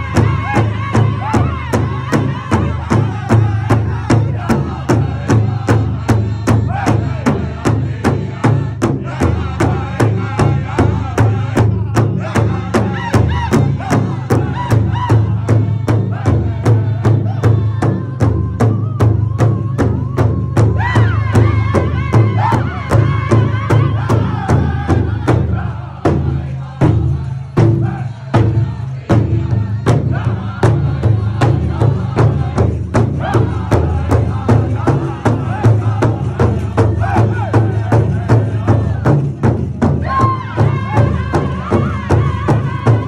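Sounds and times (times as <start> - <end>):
large hide drum beating: 0.0 - 43.0
people singing: 0.0 - 43.0.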